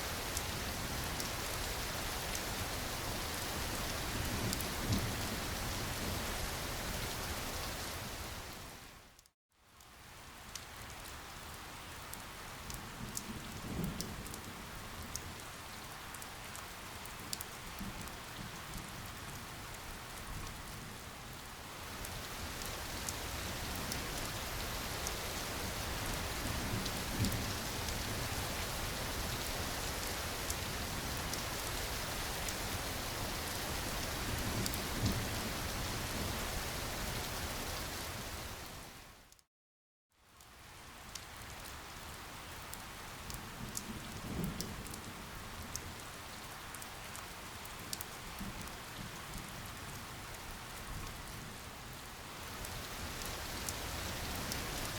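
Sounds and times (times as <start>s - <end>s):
rain falling: 0.0s - 39.4s, 40.2s - 54.9s.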